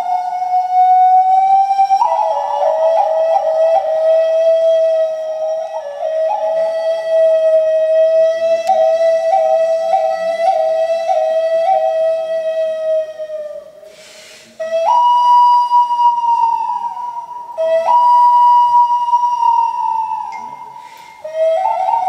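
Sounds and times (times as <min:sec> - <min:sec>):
ocarina playing slow melody: 0:00.0 - 0:22.0.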